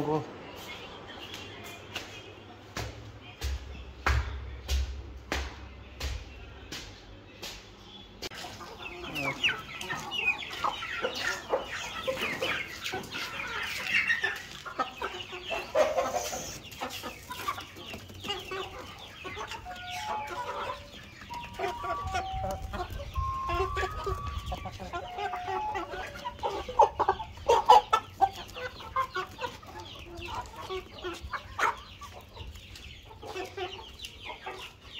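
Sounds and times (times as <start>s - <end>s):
chickens clucking and peeping: 0.0s - 34.9s.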